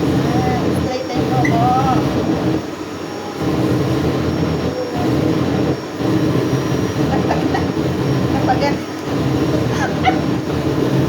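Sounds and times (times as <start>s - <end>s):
air blowing onto hair: 0.0s - 11.0s
vacuum cleaner motor running: 0.0s - 11.0s.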